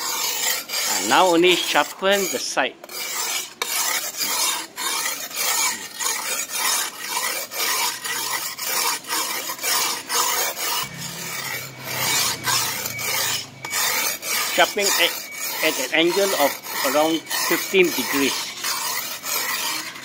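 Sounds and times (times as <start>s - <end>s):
sharpening stone rasping on steel blade: 0.0s - 20.0s.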